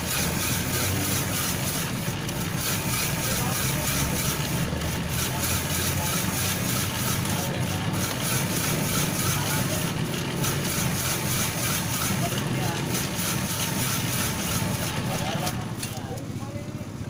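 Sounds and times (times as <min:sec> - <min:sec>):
machine low rumble: 0:00.0 - 0:17.0.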